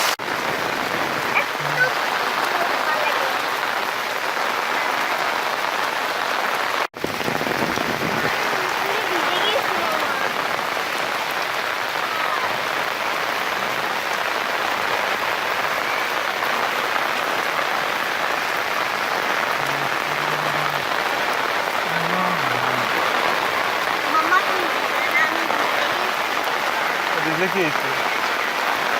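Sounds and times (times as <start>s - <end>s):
heavy rain falling: 0.0s - 28.9s.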